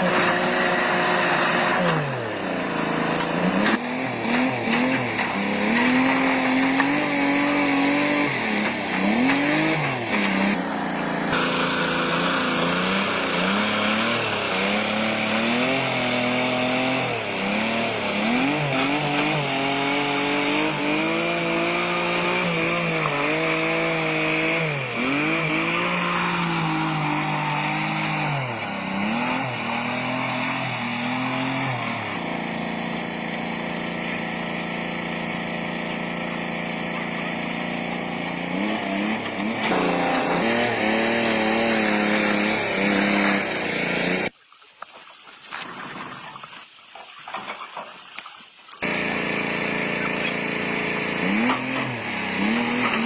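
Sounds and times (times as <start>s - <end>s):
motor running with dipping pitch: 0.0s - 44.3s, 48.8s - 53.0s.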